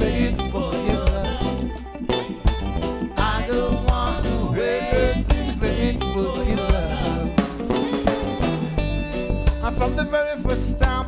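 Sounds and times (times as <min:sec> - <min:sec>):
bass guitar: 0:00.0 - 0:11.0
drum kit steady beat: 0:00.0 - 0:11.0
electric guitar: 0:00.0 - 0:11.0
keyboard: 0:00.0 - 0:11.0.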